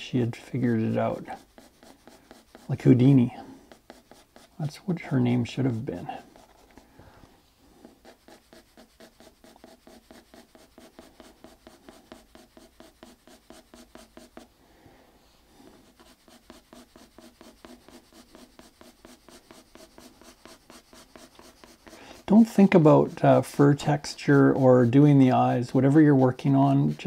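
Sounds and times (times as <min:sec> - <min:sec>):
pencil shading on paper: 0:00.4 - 0:06.9, 0:07.7 - 0:14.5, 0:15.6 - 0:27.0.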